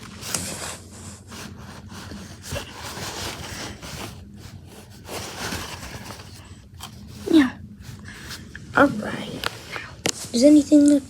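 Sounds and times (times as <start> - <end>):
rubbing and scraping handling noise: 0.0 - 11.0.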